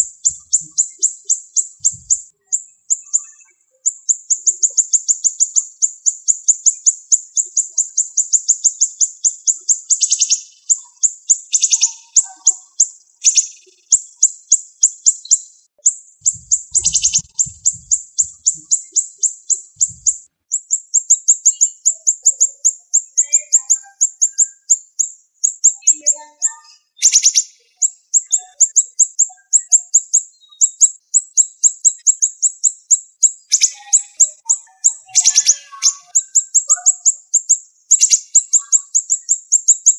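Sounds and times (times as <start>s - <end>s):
bird singing rapid chirps: 0.0s - 39.9s
sharp bird calls: 0.0s - 39.9s.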